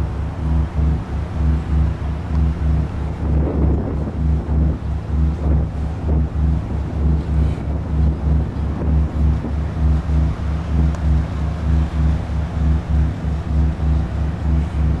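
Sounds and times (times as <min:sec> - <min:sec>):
deep throbbing rumble: 0:00.0 - 0:15.0.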